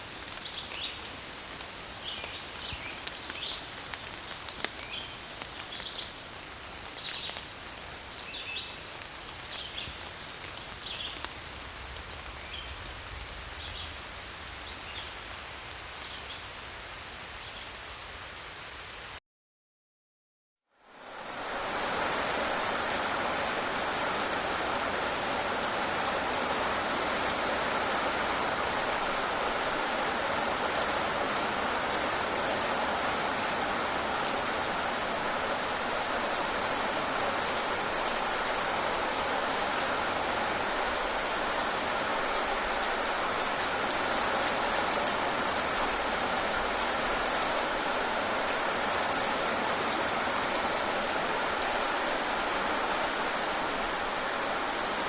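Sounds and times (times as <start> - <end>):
rain falling: 0.0 - 19.2, 20.8 - 55.0.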